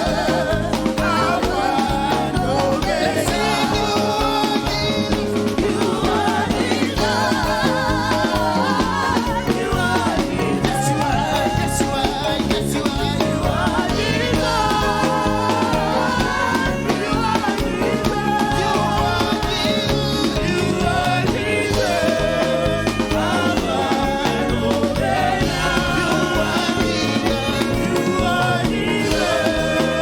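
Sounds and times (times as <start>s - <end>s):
band with drum kit: 0.0s - 30.0s
people singing: 0.0s - 30.0s.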